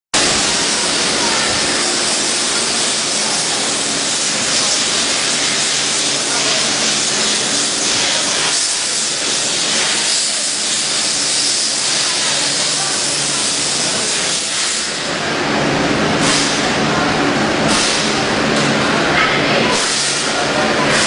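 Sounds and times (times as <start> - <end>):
hissing factory machinery: 0.2 - 21.0
low machine hum: 0.2 - 21.0.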